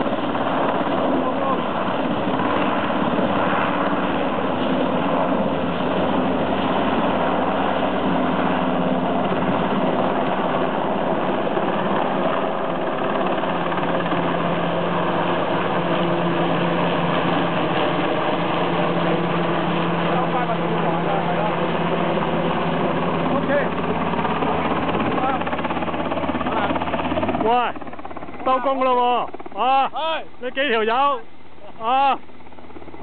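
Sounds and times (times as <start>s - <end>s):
helicopter engine and rotor drone: 0.0s - 33.0s.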